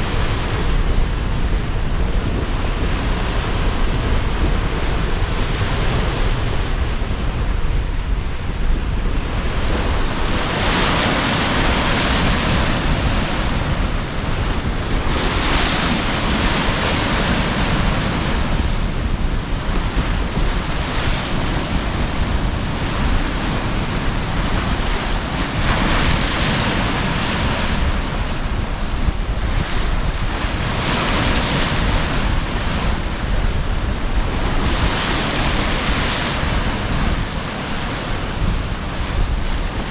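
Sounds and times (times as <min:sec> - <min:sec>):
sea waves breaking: 0:00.0 - 0:39.9
strong wind rumble: 0:00.0 - 0:39.9.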